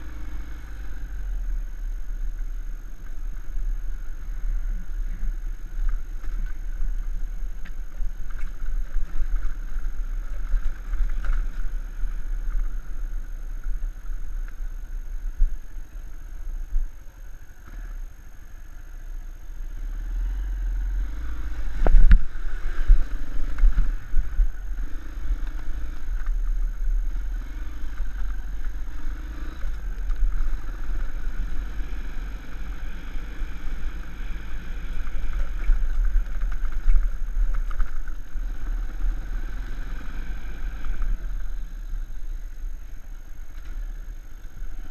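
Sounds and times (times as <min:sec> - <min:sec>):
low rumble from jolting ride: 0:00.0 - 0:44.9
motorcycle engine running: 0:00.0 - 0:44.9.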